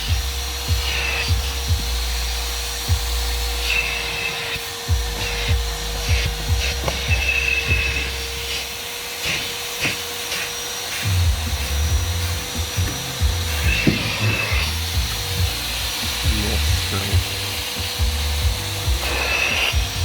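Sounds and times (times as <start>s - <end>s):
nozzle knocking and scraping: 0.0s - 20.0s
wet vacuum extractor whining: 0.0s - 20.0s.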